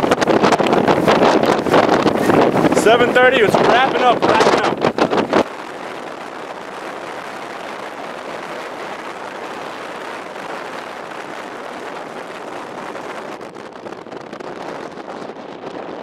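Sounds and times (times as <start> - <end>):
storm wind rushing: 0.0 - 16.0.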